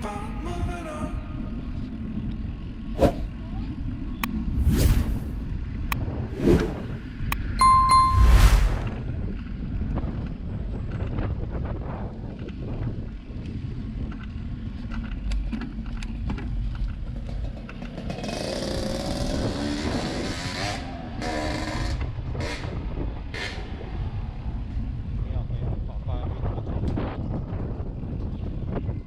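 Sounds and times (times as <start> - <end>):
road and wind rumble: 0.7 - 29.0.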